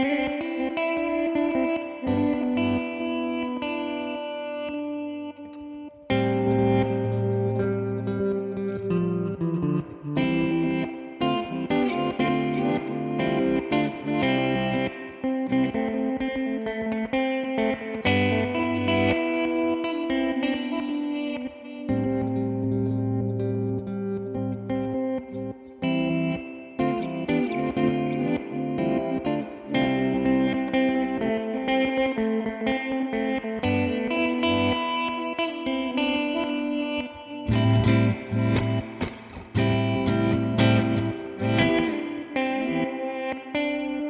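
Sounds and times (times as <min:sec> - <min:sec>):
electric guitar with reverse effect: 0:00.0 - 0:44.0.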